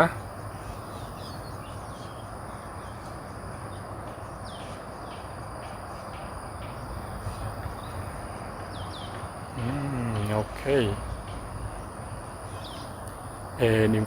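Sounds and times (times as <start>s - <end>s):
bird chirps: 0.0s - 13.0s
insect drone: 0.0s - 14.0s
low background noise: 0.0s - 14.0s.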